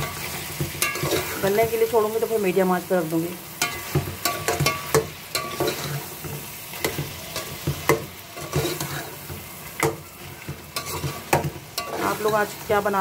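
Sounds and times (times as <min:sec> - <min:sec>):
spatula scraping metal pot: 0:00.0 - 0:01.8, 0:03.6 - 0:12.8
frying sizzle: 0:00.0 - 0:13.0.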